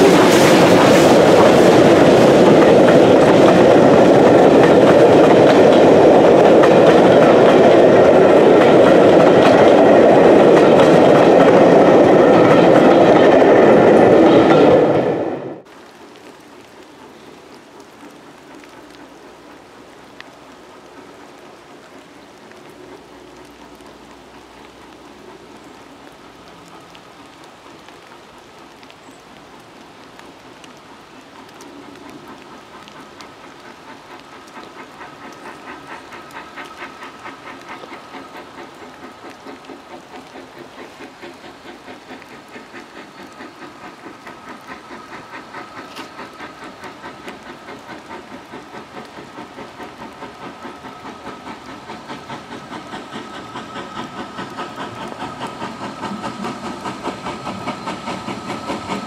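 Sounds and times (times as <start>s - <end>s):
rain hissing: 0.0s - 59.0s
steam locomotive chuffing: 0.0s - 59.0s.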